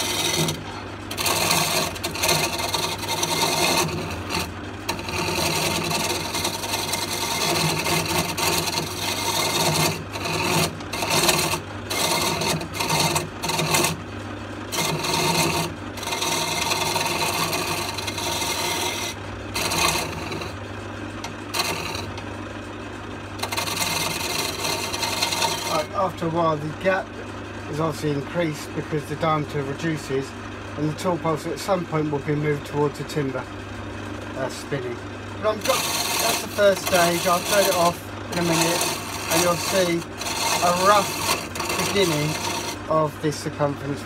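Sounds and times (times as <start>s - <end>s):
gouge scraping spinning wood: 0.0s - 44.0s
lathe motor hum: 0.0s - 44.0s.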